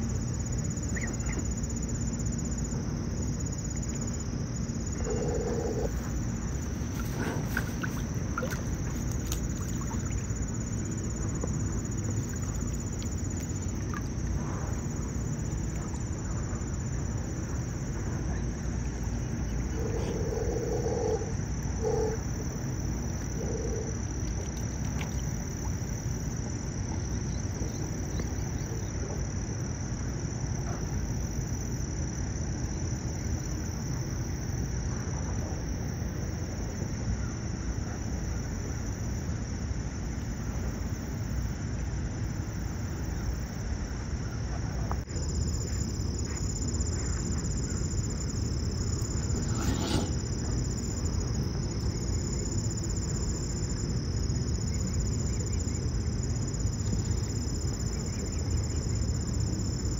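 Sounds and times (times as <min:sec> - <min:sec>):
high-pitched insect chorus: 0:00.0 - 0:59.9
low outdoor rumble: 0:00.0 - 0:59.9.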